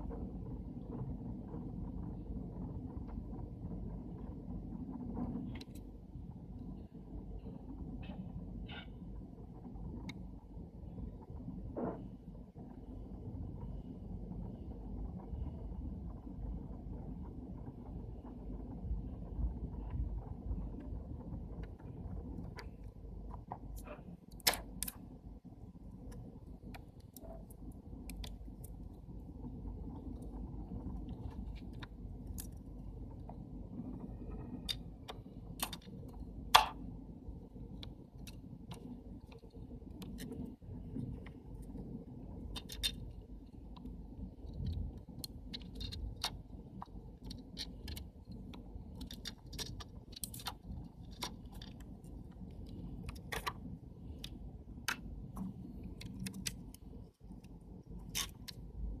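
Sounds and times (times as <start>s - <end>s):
low handling rumble: 0.0s - 59.0s
steady low hum: 0.0s - 59.0s.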